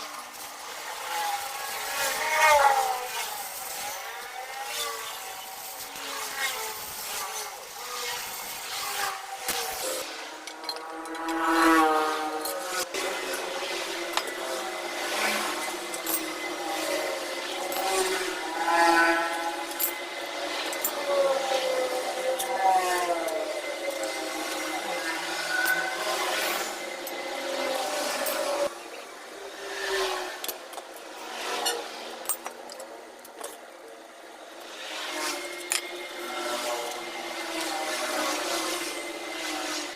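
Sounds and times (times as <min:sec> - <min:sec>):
power tool motor whine: 0:00.0 - 0:32.8, 0:34.3 - 0:39.9.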